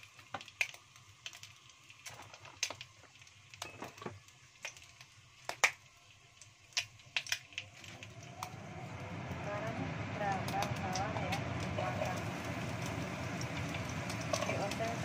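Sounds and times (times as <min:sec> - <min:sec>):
hot oil popping and crackling: 0:00.0 - 0:15.0.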